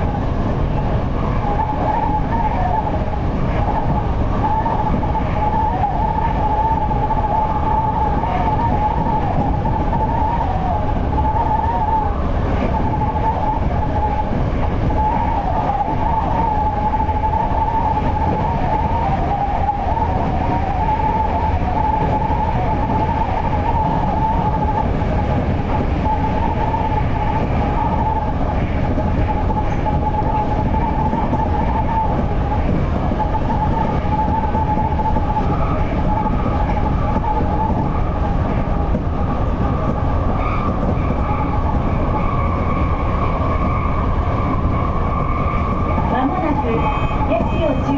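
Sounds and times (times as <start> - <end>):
high wavering whine: 0.0 - 47.9
train wheels rumbling on rail: 0.0 - 47.9.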